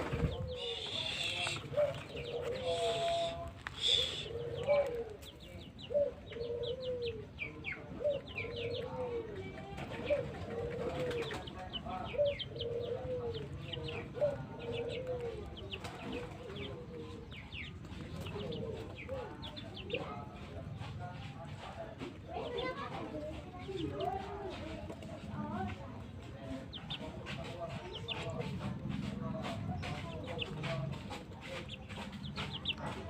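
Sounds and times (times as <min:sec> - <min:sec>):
pigeons cooing: 0:00.0 - 0:33.0
small birds chirping: 0:00.0 - 0:33.0.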